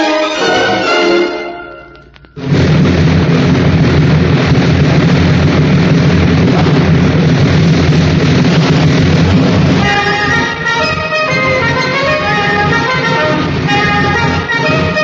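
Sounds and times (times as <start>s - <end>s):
low hum: 1.8s - 15.0s
loud steady rushing noise: 2.0s - 15.0s.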